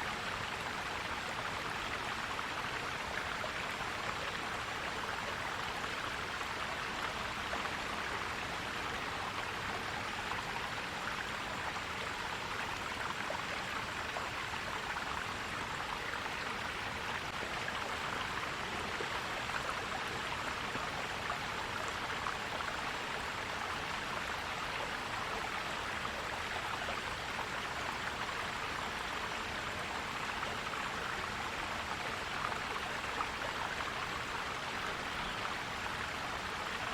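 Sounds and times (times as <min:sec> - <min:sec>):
stream flowing over rocks: 0:00.0 - 0:36.9.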